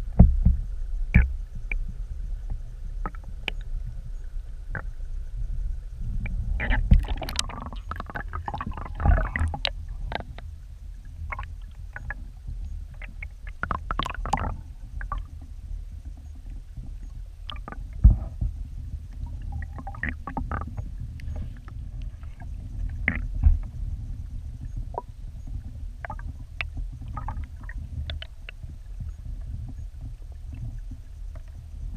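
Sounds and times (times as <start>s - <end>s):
underwater clicks and ticks: 0.0s - 5.0s, 6.2s - 31.9s
muffled underwater creek rumble: 0.0s - 31.9s.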